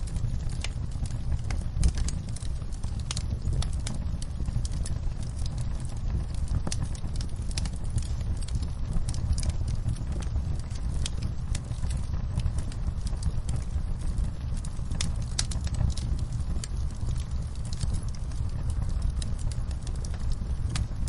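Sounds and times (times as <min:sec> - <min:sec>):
rain against window: 0:00.0 - 0:21.0
wood fire crackling: 0:00.0 - 0:21.0.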